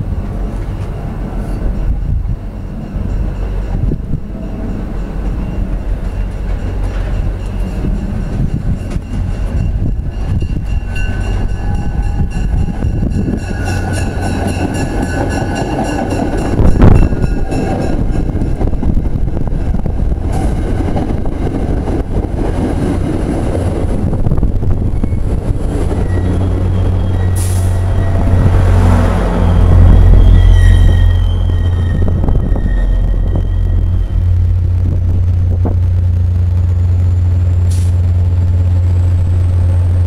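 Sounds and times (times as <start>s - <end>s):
train passing with rumble: 0.0s - 40.0s.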